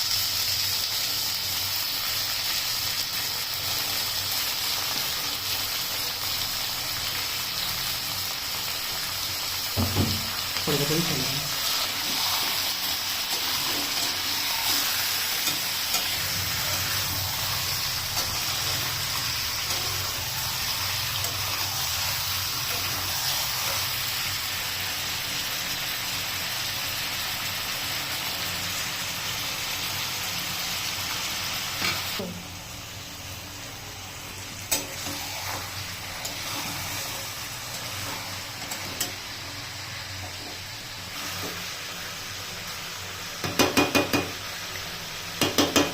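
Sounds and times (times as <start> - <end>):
curry sizzling in a pan: 0.0 - 45.9.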